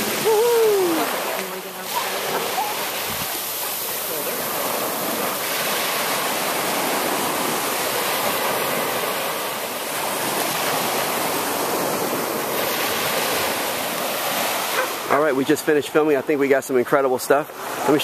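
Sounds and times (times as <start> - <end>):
small waves breaking: 0.0 - 18.0.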